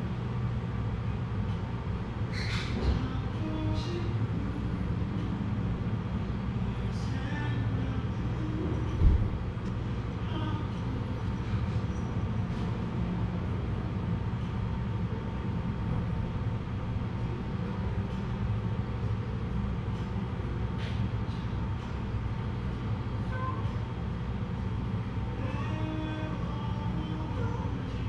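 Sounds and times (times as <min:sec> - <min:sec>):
low room rumble: 0:00.0 - 0:28.0.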